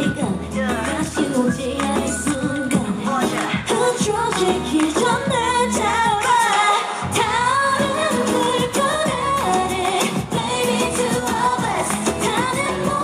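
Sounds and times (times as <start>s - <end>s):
dance track with beat: 0.0s - 13.0s
woman singing: 0.0s - 13.0s.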